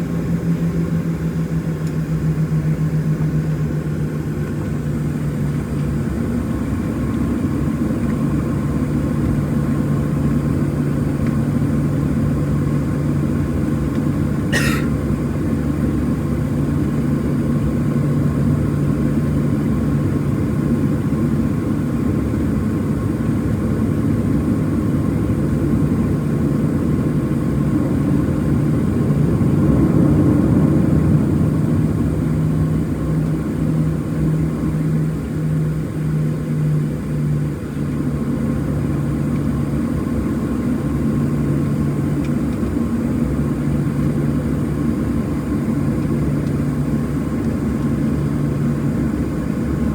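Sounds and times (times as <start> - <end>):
airplane cabin engine hum: 0.0 - 49.9.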